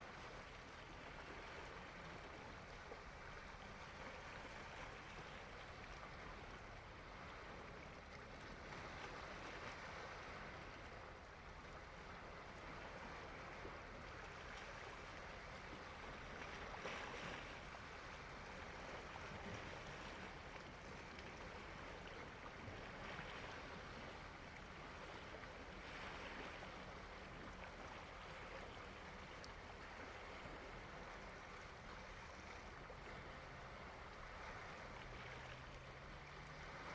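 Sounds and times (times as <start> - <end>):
small waves washing onto shore: 0.0 - 36.9.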